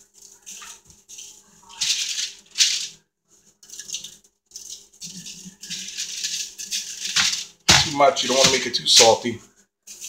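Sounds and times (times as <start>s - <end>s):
seasoning rattling in shaker: 0.2s - 3.0s, 3.6s - 10.0s.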